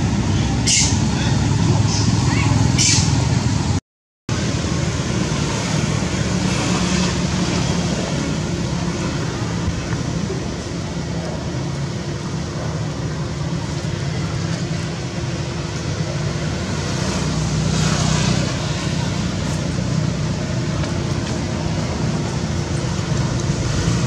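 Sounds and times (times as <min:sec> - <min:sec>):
low background hum and rumble: 0:00.0 - 0:24.0.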